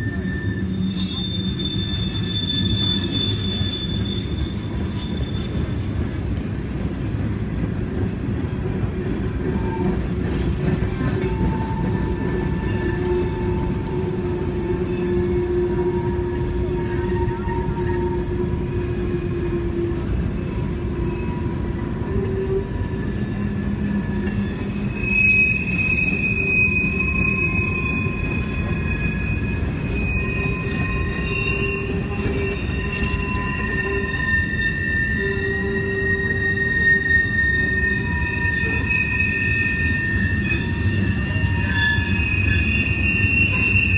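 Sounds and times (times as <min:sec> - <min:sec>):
train wheels rumbling on rail: 0:00.0 - 0:43.9
wheels squealing: 0:00.0 - 0:43.9.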